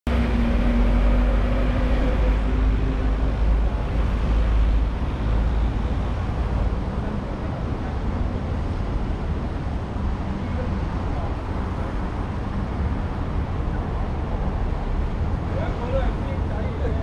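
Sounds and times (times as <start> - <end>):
passing traffic: 0.1 - 17.0
vehicle engine rumbling: 0.1 - 17.0.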